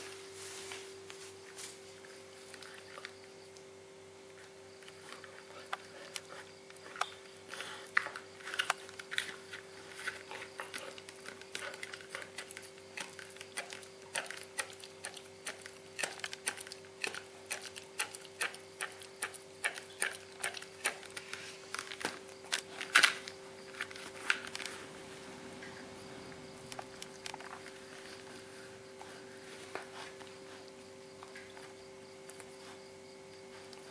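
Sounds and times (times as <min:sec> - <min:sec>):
steady hum: 0:00.0 - 0:33.9
puppy gnawing rawhide bone: 0:02.1 - 0:03.4, 0:04.3 - 0:25.0, 0:26.1 - 0:32.9.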